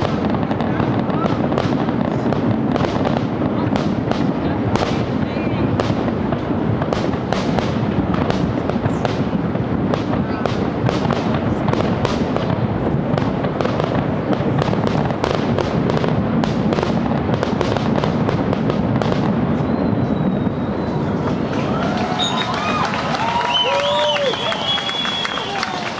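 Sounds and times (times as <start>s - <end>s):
fireworks bursting: 0.0s - 25.9s.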